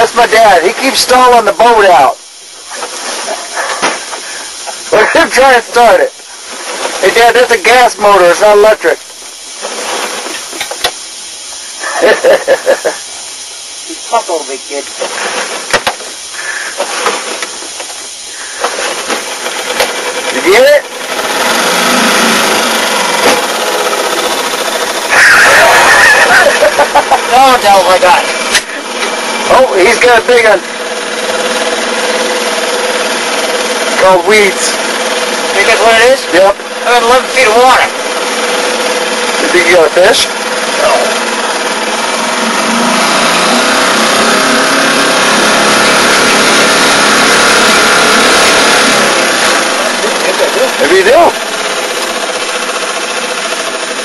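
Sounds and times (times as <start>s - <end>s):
loud rough noise: 0.0s - 54.0s
small outboard motor running: 0.0s - 54.0s.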